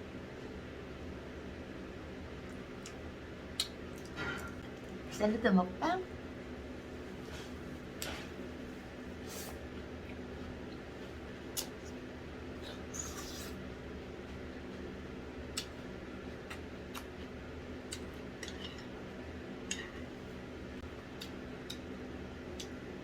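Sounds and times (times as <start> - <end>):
steady room hum: 0.0 - 23.0.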